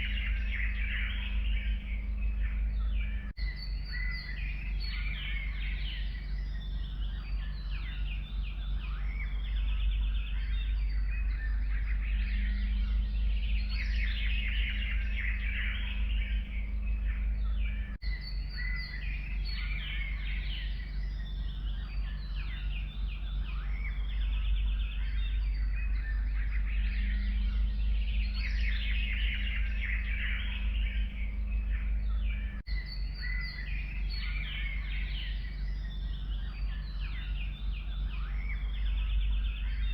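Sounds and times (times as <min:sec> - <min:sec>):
songbirds chirping and trilling: 0:00.0 - 0:39.9
steady low rumble: 0:00.0 - 0:39.9.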